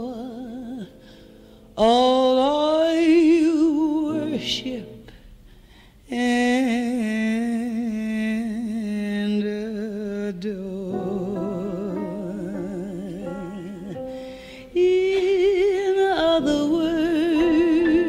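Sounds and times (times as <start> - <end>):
woman singing jazz with vibrato: 0.0 - 5.2, 6.0 - 18.0.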